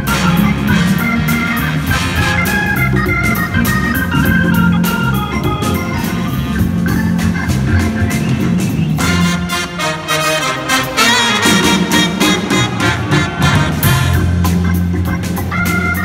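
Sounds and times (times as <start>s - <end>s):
drums steady beat: 0.0s - 16.0s
organ sustained chords: 0.0s - 16.0s.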